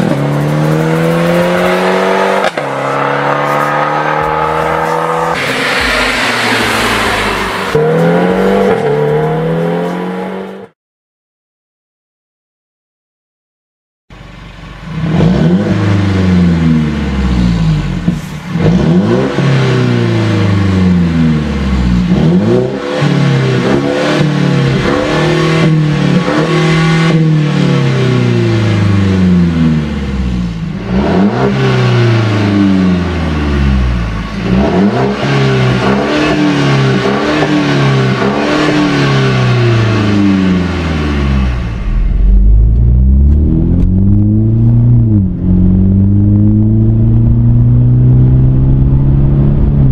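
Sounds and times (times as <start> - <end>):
car engine revving: 0.0 - 10.7, 14.2 - 49.9.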